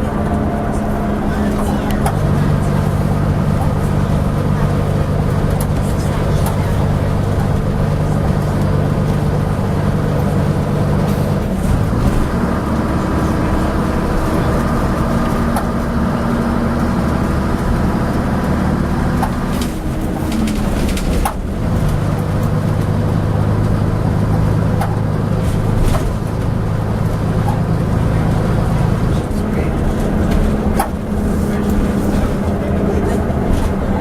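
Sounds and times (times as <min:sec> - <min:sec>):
bus diesel engine: 0:00.0 - 0:34.0
sharp clanks from bus: 0:00.0 - 0:34.0.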